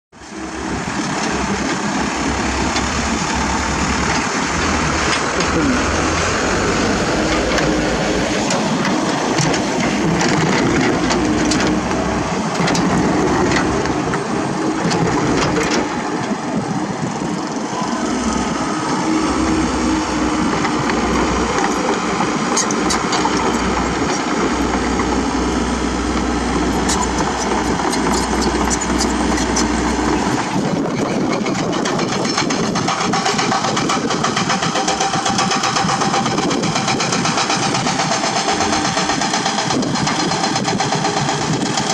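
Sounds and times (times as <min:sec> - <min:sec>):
excavator diesel engine running: 0:00.2 - 0:41.9.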